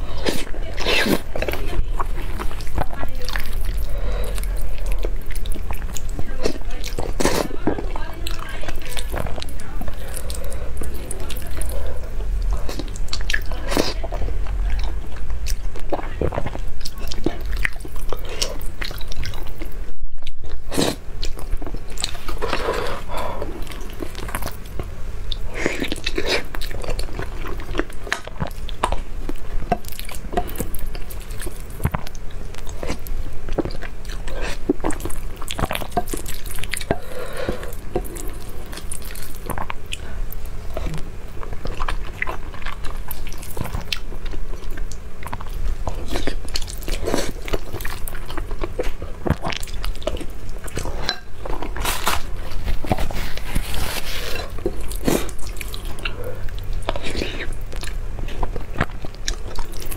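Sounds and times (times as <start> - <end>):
noodle slurping and chewing: 0.0 - 59.9.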